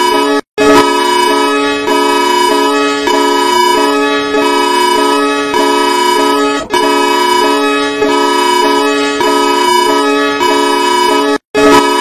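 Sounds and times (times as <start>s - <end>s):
electronic alert alarm tones: 0.0s - 12.0s.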